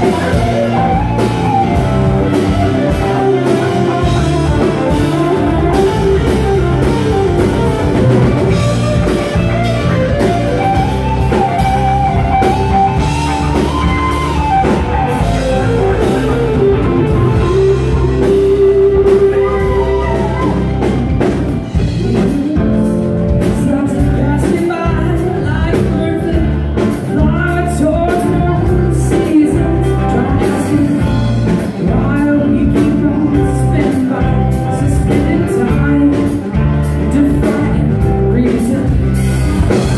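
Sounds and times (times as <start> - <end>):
bass guitar: 0.0 - 39.9
drum kit: 0.0 - 39.9
electric guitar: 0.0 - 39.9
person singing: 0.0 - 39.9.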